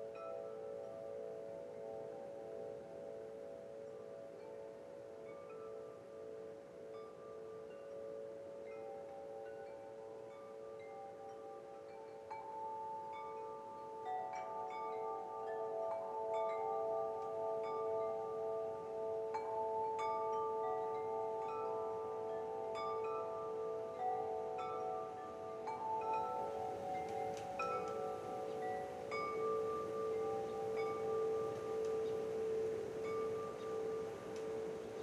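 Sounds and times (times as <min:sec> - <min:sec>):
wind chimes ringing: 0:00.0 - 0:35.0.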